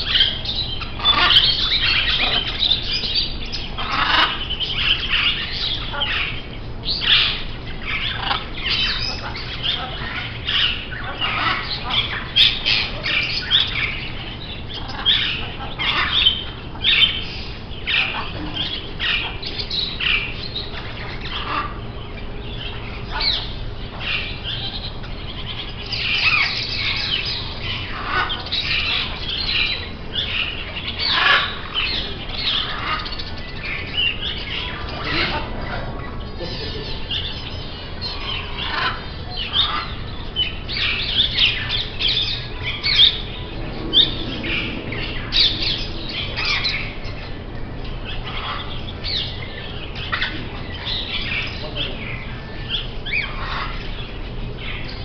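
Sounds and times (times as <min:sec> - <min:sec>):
parrots squawking: 0:00.0 - 0:47.4, 0:48.0 - 0:55.0.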